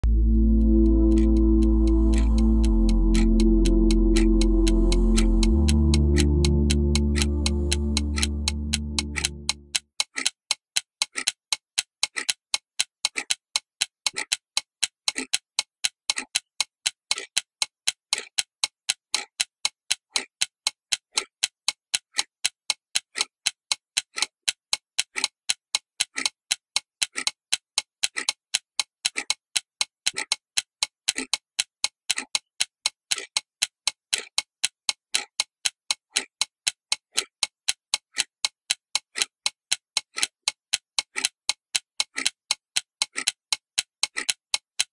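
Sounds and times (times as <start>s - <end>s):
clock ticking: 0.0s - 44.9s.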